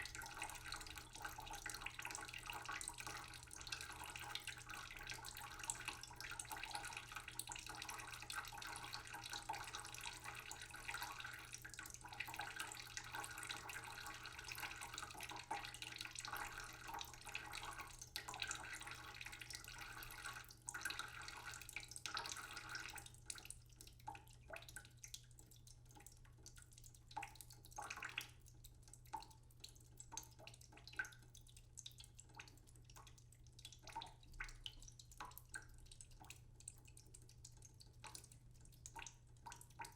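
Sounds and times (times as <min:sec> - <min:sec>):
tap water trickling into pot: 0:00.0 - 0:39.9
water dripping: 0:00.0 - 0:39.9.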